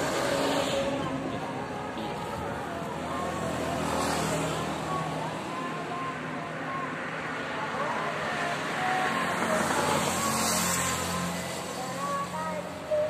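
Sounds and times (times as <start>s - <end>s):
car approaching: 0.0s - 13.0s
motorway traffic hum: 0.0s - 13.0s.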